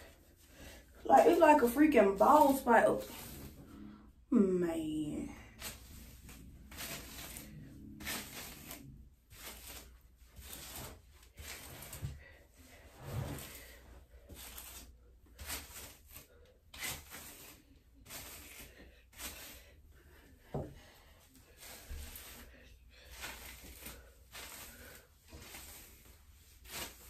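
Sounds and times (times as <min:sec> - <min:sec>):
comb pulled through hair: 0:00.0 - 0:27.0.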